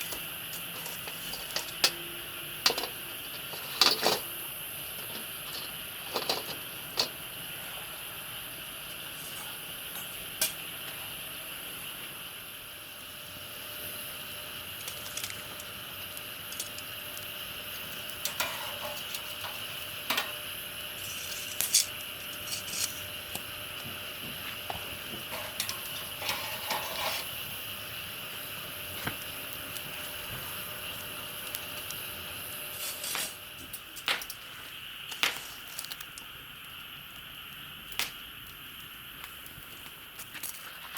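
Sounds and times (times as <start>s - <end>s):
steady high hiss: 0.0s - 40.9s.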